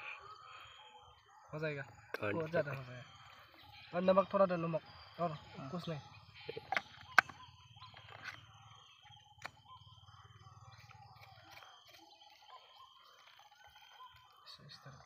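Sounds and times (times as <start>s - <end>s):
distant bird calls: 0.0s - 15.0s.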